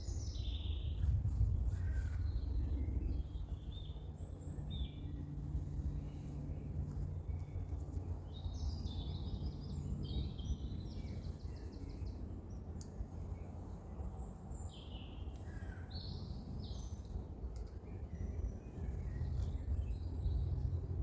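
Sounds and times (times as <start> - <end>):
low outdoor rumble: 0.0 - 21.0
songbirds chirping and trilling: 0.0 - 21.0.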